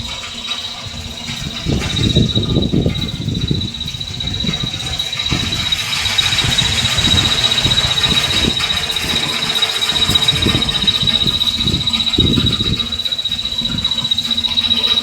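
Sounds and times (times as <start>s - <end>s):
steady high-pitched tone: 0.0s - 15.0s
wind buffeting microphone: 0.0s - 15.0s.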